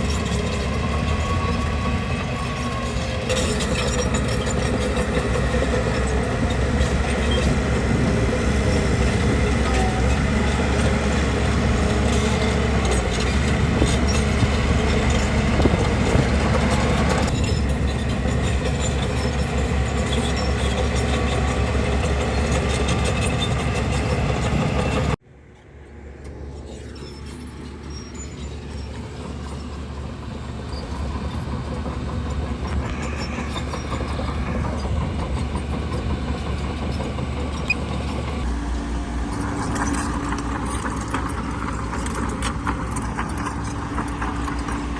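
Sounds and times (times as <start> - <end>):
diesel engine of earthmoving machine: 0.0 - 44.9.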